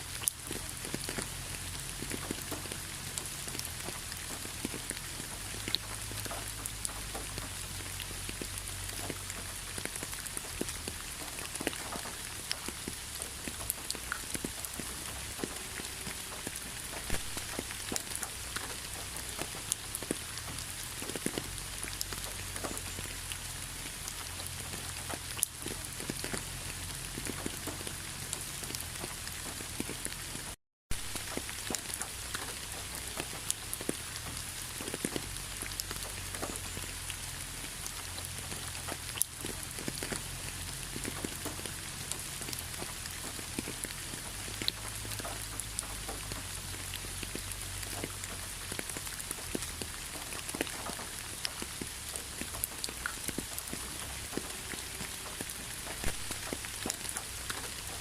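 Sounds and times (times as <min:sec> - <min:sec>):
rain falling: 0:00.0 - 0:58.0
raindrops ticking on a surface: 0:00.0 - 0:58.0.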